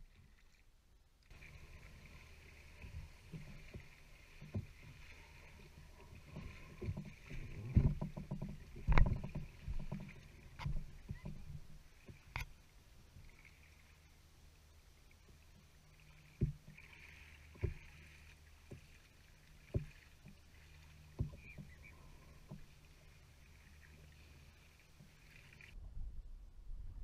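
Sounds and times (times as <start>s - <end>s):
water lapping against hull: 0.0s - 25.8s.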